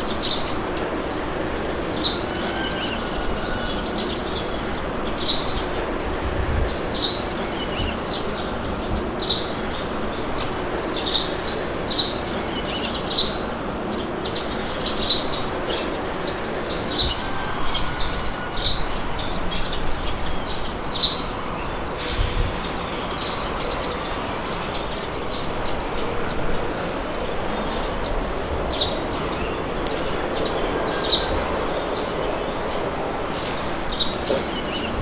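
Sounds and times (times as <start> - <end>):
steady wind blowing: 0.0 - 35.0.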